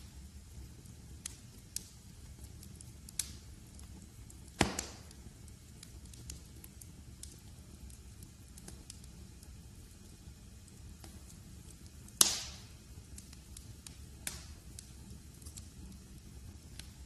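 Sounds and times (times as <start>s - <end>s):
low steady rumble: 0.0s - 17.0s
wood fire crackling: 0.0s - 17.0s.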